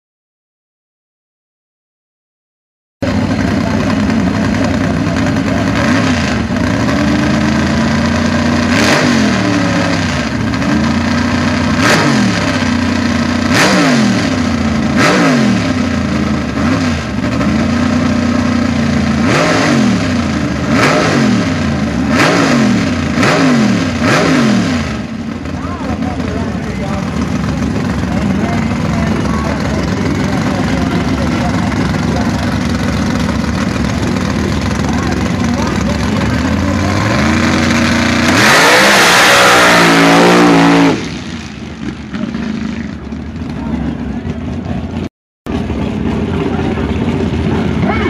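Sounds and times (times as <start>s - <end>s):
race car engine revving: 3.0s - 48.0s.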